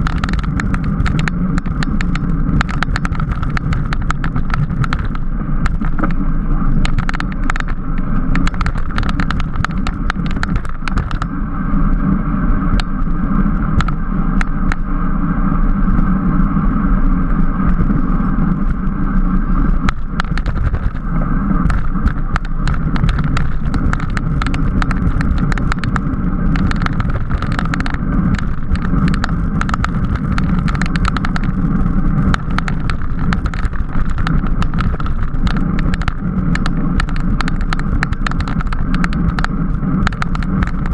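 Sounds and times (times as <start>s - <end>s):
bicycle clicks and rattles: 0.0s - 14.9s, 17.2s - 40.9s
wind and road noise: 0.0s - 40.9s.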